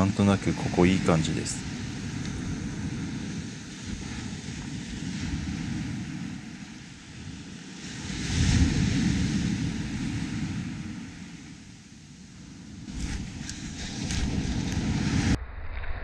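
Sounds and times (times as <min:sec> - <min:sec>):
surf breaking on beach: 0:00.0 - 0:15.4
wind rumbling on microphone: 0:00.0 - 0:16.0.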